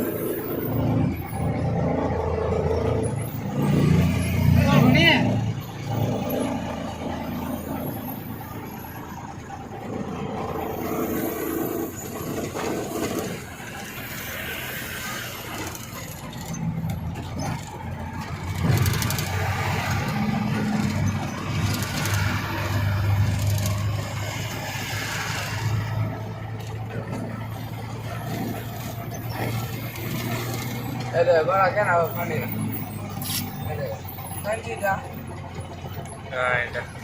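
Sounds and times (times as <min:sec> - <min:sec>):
truck diesel engines driving past: 0:00.0 - 0:37.0.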